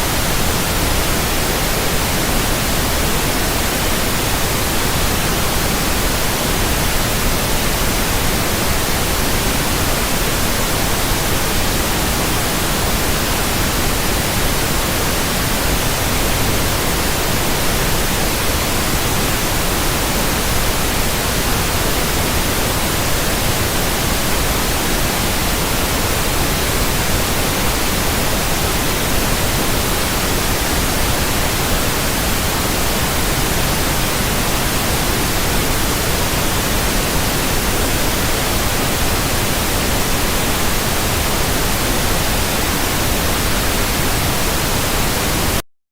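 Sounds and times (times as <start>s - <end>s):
static hiss: 0.0s - 45.6s.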